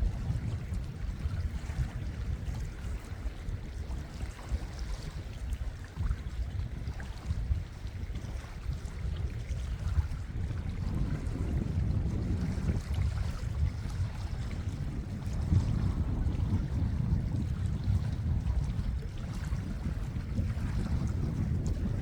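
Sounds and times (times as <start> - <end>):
sea: 0.0 - 22.0
wind buffeting microphone: 0.0 - 22.0.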